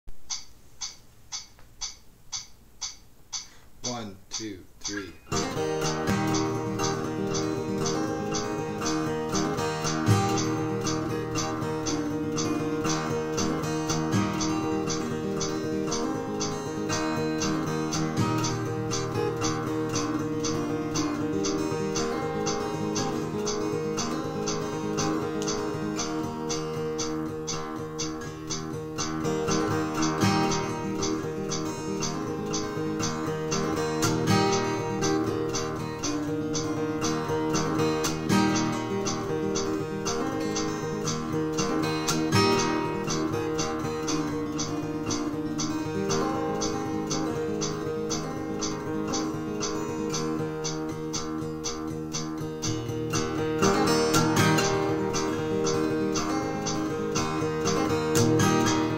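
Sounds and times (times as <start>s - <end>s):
acoustic guitar playing: 3.4s - 58.9s.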